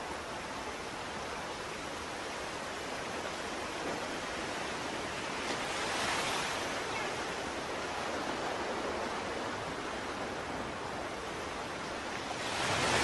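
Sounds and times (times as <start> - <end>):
ocean waves rushing: 0.0 - 13.0.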